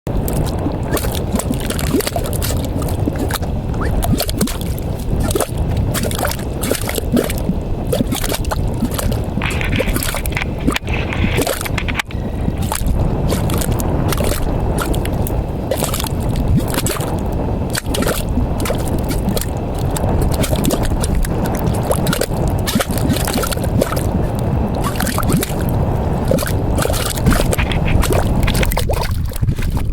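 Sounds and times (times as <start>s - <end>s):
low rumble: 0.1s - 29.9s
mud bubbling and plopping: 0.1s - 29.9s.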